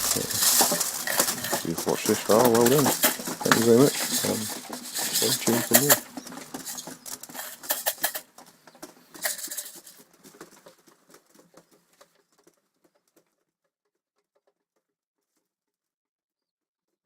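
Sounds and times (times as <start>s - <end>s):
light tapping and pattering: 0.0s - 15.4s.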